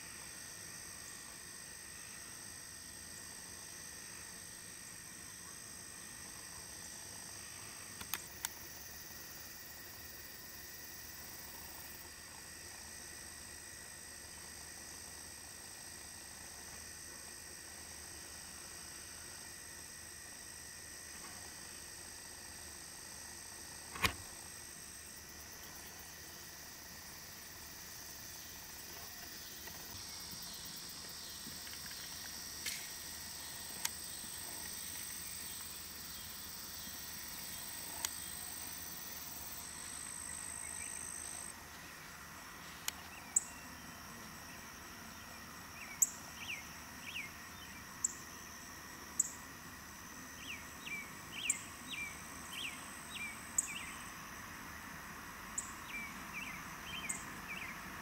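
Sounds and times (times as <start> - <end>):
crickets hissing: 0.0 - 58.0
high insect trill: 0.0 - 58.0.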